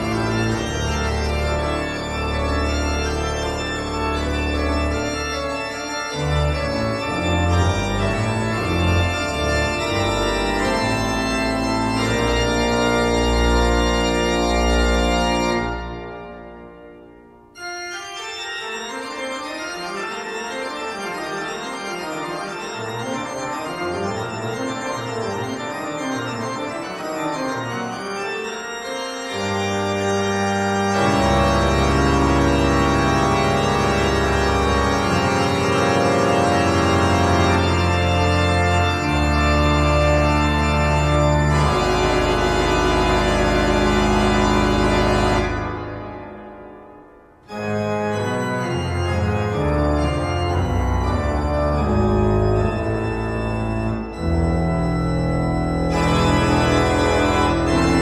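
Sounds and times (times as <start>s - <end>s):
organ music: 0.0s - 58.0s.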